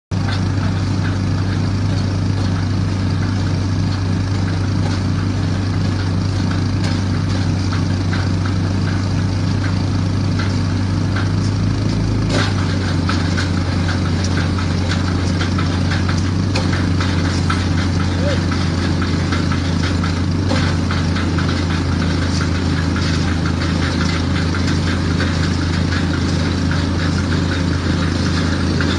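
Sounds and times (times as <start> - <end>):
diesel engine humming: 0.1 - 28.9.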